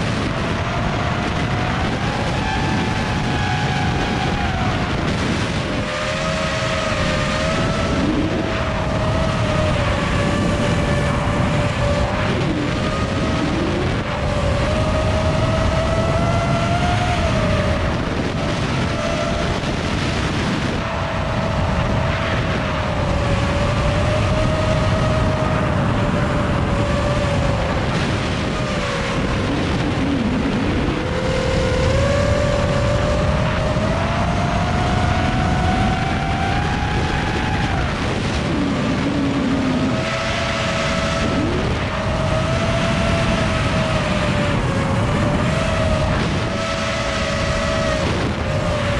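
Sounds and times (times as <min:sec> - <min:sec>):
drone propellers whining: 0:00.0 - 0:48.9
wind noise: 0:00.0 - 0:48.9.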